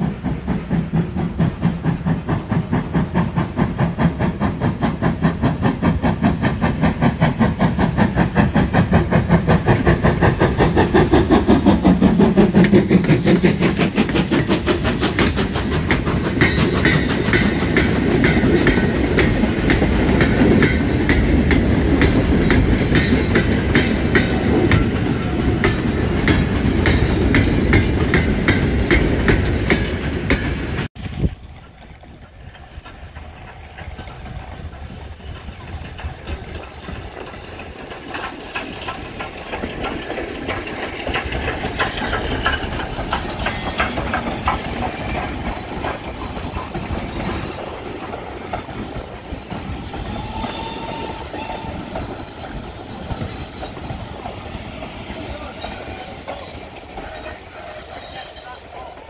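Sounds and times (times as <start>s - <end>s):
wheels clicking over rail joints: 0.0s - 57.4s
train rolling past: 0.0s - 59.0s.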